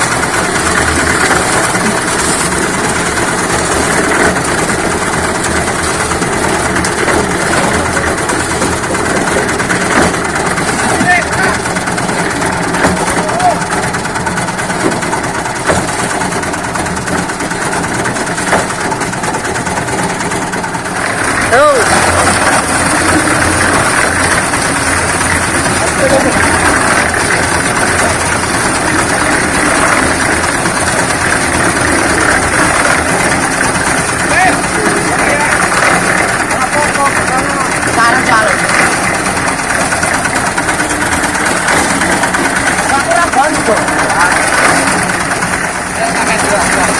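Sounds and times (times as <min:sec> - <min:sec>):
concrete mixer running: 0:00.0 - 0:46.9.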